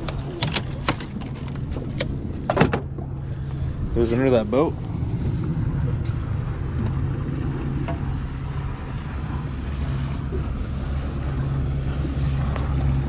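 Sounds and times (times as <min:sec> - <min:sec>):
outboard motor idling: 0:00.0 - 0:13.0
wind on microphone: 0:00.0 - 0:13.0.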